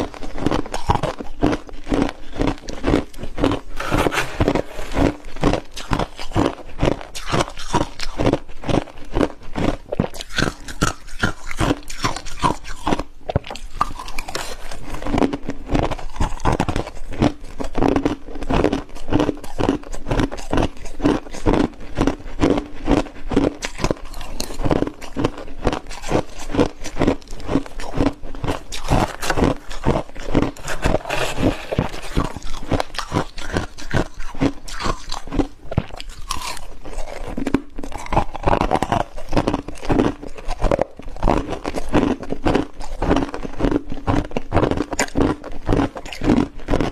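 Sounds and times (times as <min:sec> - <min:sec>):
chewing crunchy frost: 0:00.0 - 0:46.9.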